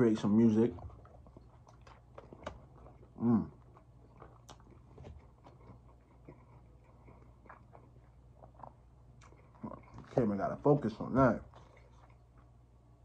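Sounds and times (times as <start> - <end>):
wet chewing mouth sounds: 0.2 - 10.4, 11.4 - 12.6.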